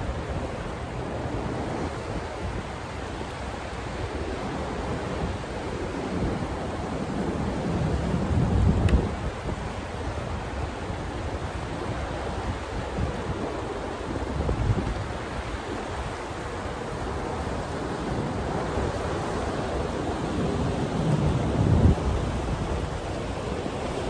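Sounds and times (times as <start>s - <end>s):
turbulent water churning: 0.0s - 24.0s.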